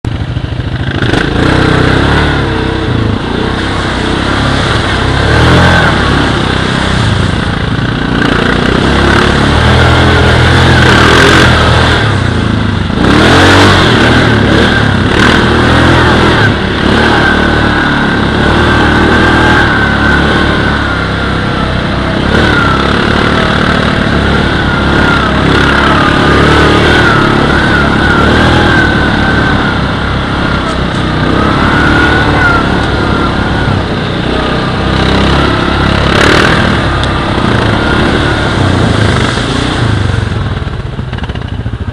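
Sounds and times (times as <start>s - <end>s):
atv engine revving: 0.0s - 41.9s
rush of noise: 0.0s - 41.9s.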